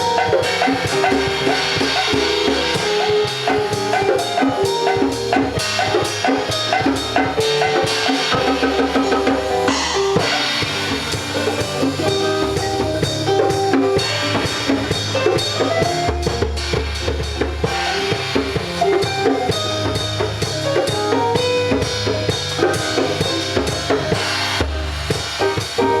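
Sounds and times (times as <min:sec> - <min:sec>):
drum kit playing steady beat: 0:00.0 - 0:26.0.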